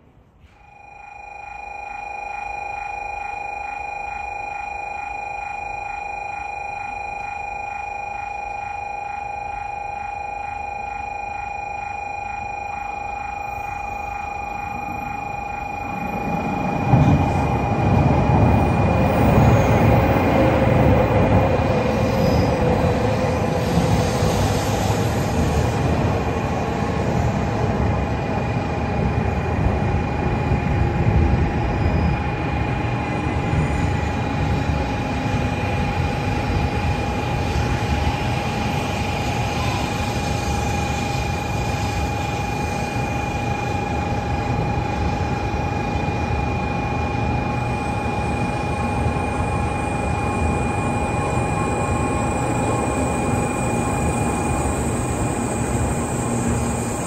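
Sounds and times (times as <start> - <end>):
train rumble from inside: 0.0 - 57.0
faint high whine: 0.2 - 57.0.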